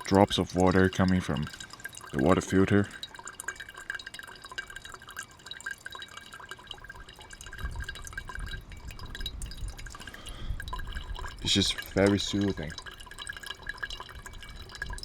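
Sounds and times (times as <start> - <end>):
water drops plinking: 0.0 - 15.0.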